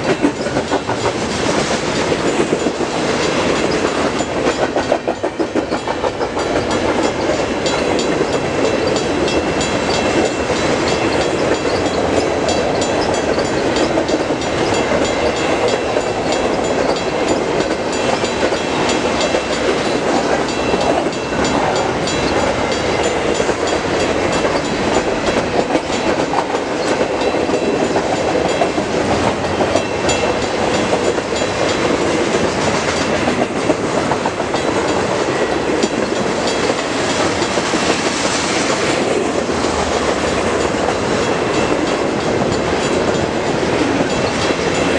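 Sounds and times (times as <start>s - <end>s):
freight train wheels rumbling: 0.0s - 44.9s
wheels clacking over rail joints: 0.0s - 44.9s.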